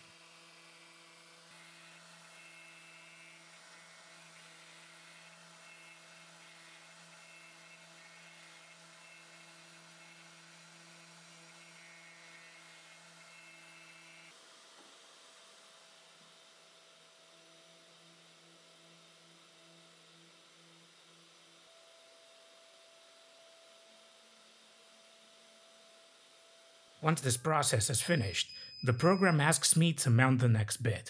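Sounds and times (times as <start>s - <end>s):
cnc spindle whine: 0.1s - 14.4s, 15.4s - 29.8s.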